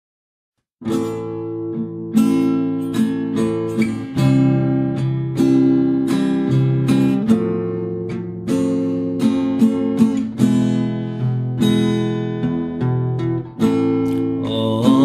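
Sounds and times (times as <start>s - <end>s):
acoustic guitar strumming: 0.8s - 15.0s.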